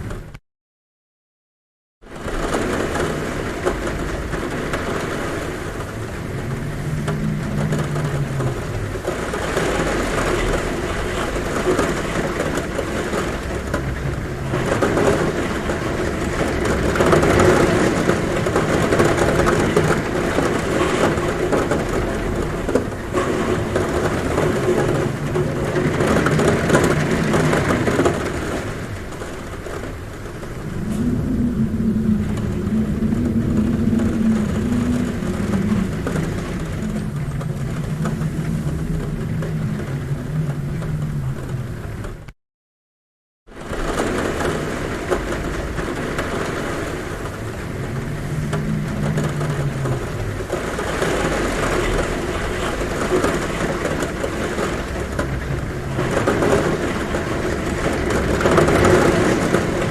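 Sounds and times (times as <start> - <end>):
heavy rain on a roof: 0.0 - 0.4, 2.0 - 42.4, 43.4 - 59.9
low wind hum: 2.1 - 42.3, 43.6 - 59.9.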